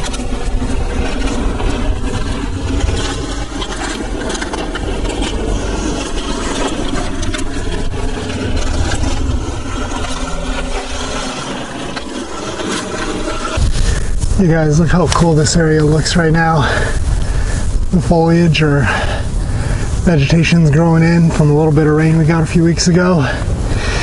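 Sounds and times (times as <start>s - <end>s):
tyres scraping on dirt: 0.0s - 22.4s
bike rattling: 0.0s - 24.0s
wind rumbling on microphone: 0.0s - 24.0s.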